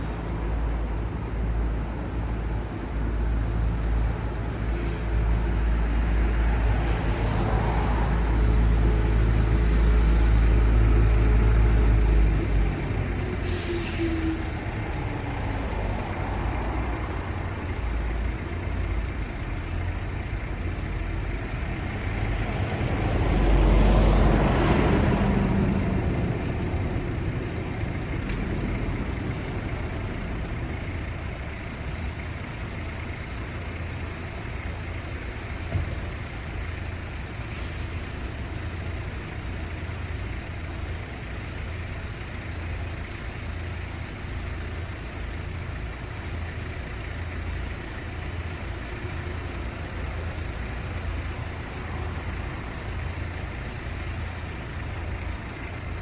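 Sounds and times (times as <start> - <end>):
heavy vehicle engine rumbling: 0.0 - 56.0
road noise: 0.0 - 56.0.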